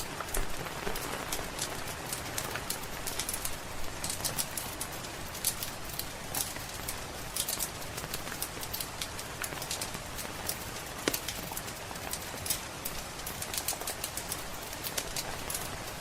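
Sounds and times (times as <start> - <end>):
rain on a roof: 0.0 - 16.0
wood fire crackling and popping: 0.0 - 16.0.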